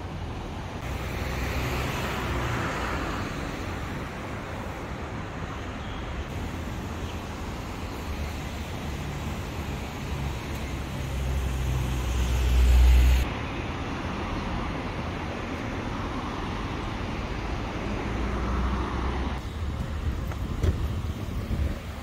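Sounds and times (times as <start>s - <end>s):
cars driving past: 0.8s - 19.6s.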